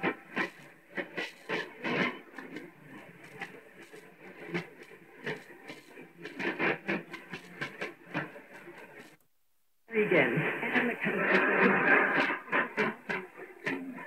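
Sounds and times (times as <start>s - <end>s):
broken radio broadcast: 0.0s - 14.0s
radio static hiss: 0.0s - 14.0s.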